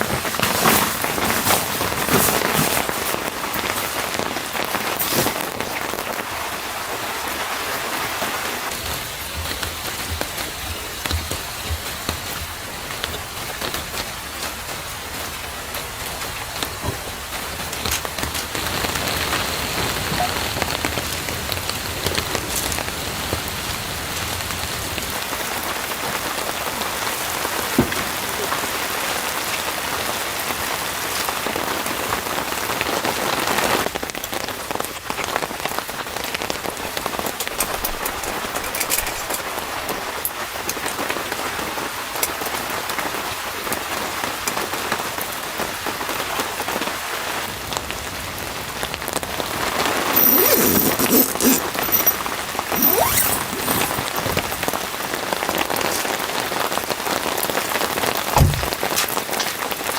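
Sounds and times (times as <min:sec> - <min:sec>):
steady rain falling: 0:00.0 - 0:50.4, 0:54.0 - 0:59.9.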